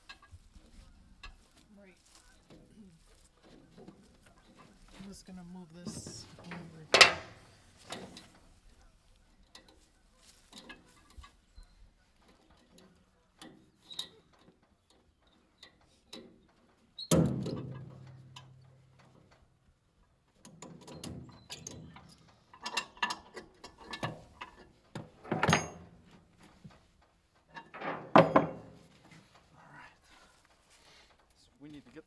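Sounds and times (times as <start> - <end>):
metal clanks and rattles: 2.2 - 8.8, 9.4 - 29.5.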